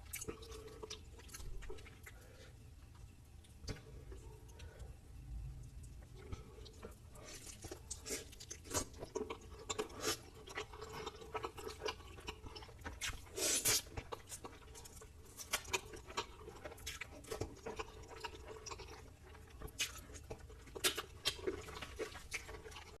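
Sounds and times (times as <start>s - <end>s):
chewing and crunching fried food: 0.0s - 23.0s.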